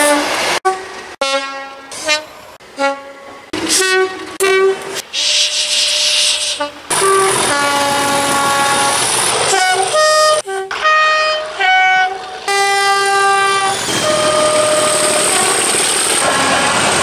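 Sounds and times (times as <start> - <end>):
two-tone locomotive air horn: 0.0 - 17.0.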